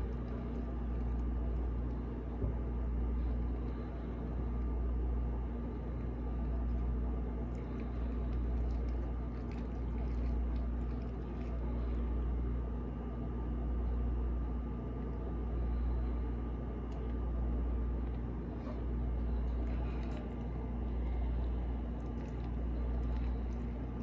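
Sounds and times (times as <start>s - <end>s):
faint steady whine: 0.0s - 24.0s
low mechanical hum: 0.0s - 24.0s.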